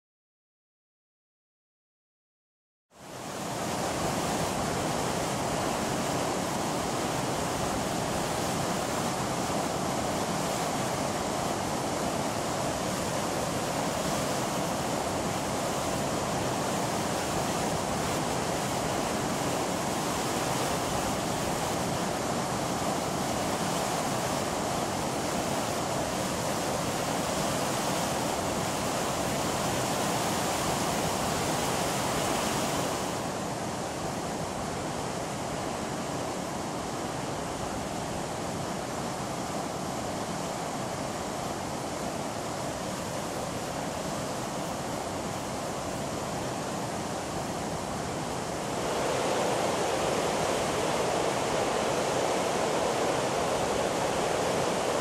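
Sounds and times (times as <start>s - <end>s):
waterfall rushing: 3.2s - 55.0s.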